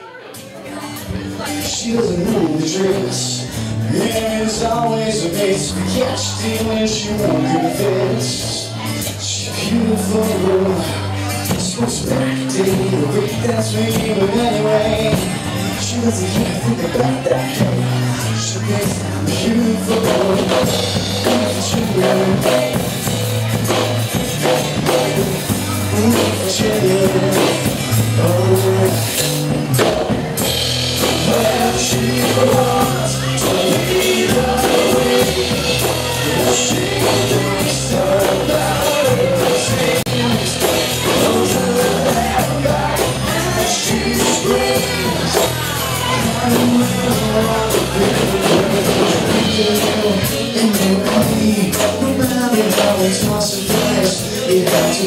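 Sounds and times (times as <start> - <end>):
acoustic guitar: 0.0 - 55.0
person singing: 0.0 - 55.0
drum kit with cymbals: 0.3 - 55.0
electric bass: 0.8 - 55.0.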